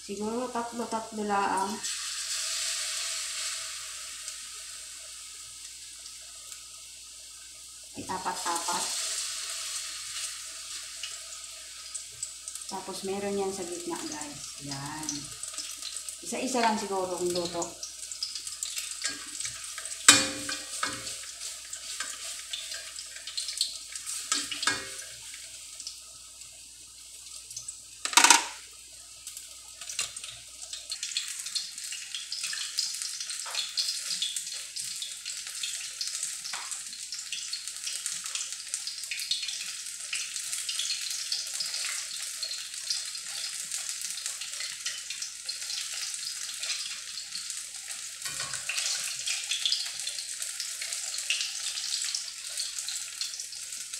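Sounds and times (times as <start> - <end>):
fritters sizzling in hot oil: 0.0 - 53.9.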